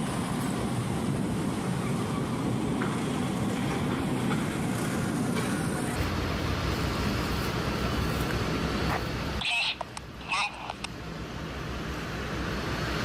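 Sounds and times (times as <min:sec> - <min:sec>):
heavy vehicle low rumble: 0:00.0 - 0:13.0
road noise: 0:00.0 - 0:13.0.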